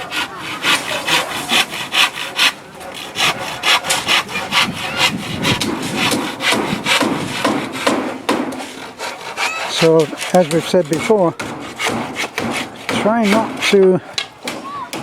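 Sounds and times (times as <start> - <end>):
hand saw cutting: 0.0 - 15.0.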